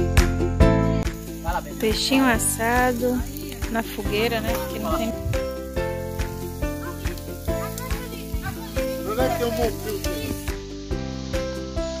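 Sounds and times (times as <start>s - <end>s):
background music with steady beat: 0.0s - 12.0s
meat sizzling on a grill: 0.0s - 12.0s.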